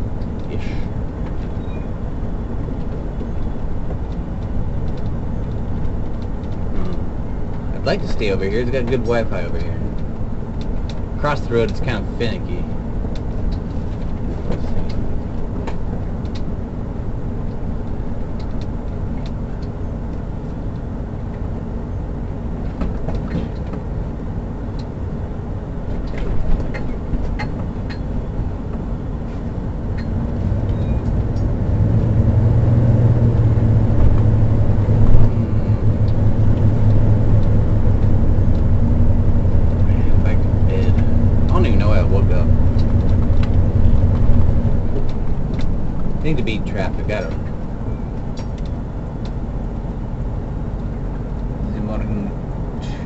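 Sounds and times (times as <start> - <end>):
vehicle engine drone: 0.0 - 53.0
clicks and rattles in cab: 2.4 - 21.6, 22.5 - 31.5, 35.8 - 52.0.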